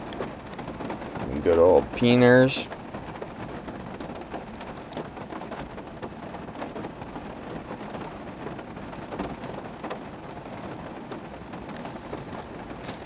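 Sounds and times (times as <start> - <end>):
heavy rain on a vehicle roof: 0.0 - 13.0.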